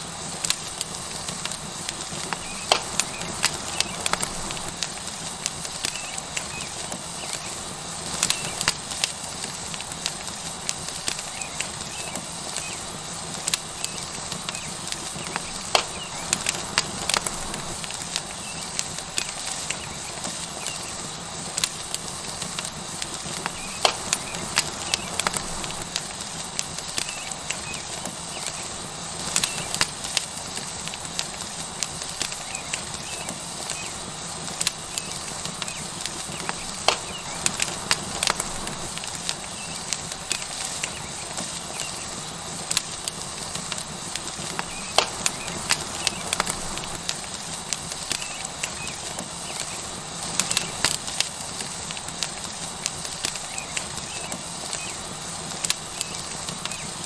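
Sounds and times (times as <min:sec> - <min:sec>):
steak sizzling on a hot rock: 0:00.0 - 0:57.0
wood fire popping and crackling: 0:00.0 - 0:57.0.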